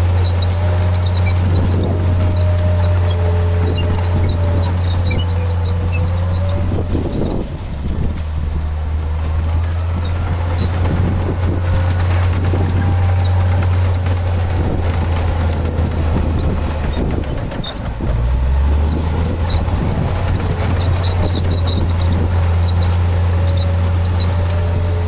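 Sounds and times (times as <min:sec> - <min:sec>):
high-pitched squeaks: 0:00.0 - 0:18.1, 0:18.8 - 0:25.0
bulldozer diesel engine droning: 0:00.0 - 0:25.0.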